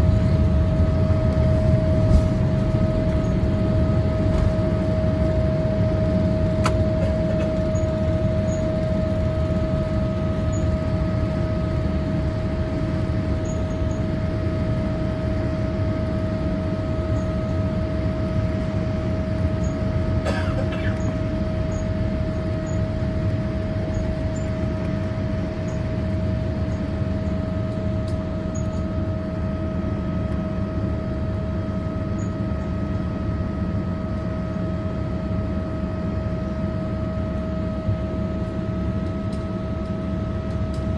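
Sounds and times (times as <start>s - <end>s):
jet engines roaring with high whine: 0.0s - 40.9s.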